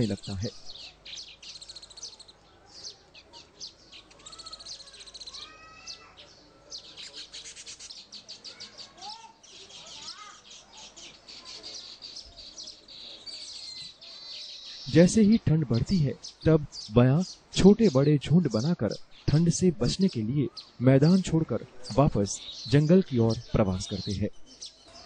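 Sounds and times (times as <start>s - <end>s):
birds chirping and chattering: 0.0s - 25.0s.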